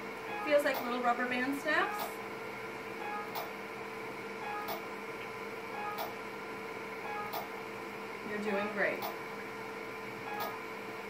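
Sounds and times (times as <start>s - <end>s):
machine steady hum: 0.0s - 11.0s.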